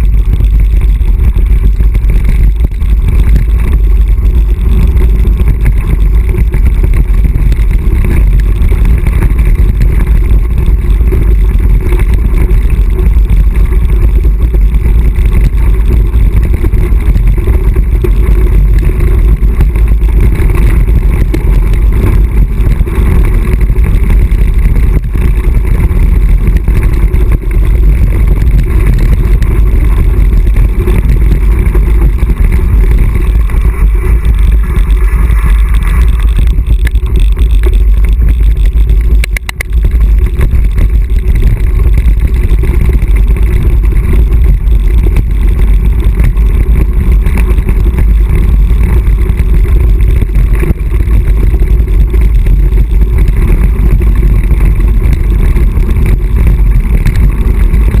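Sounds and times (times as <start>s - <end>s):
wind rumble on microphone: 0.0s - 58.0s.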